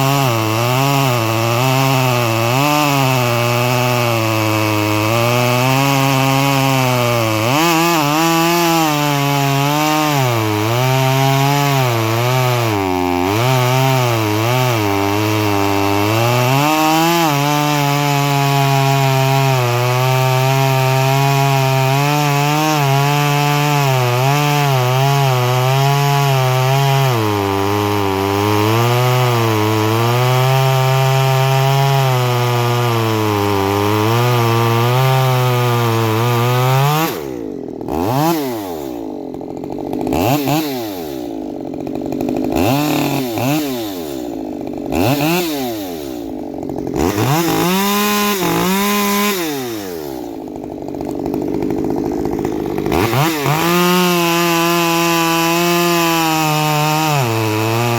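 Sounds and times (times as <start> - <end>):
chainsaw revving: 0.0 - 57.9.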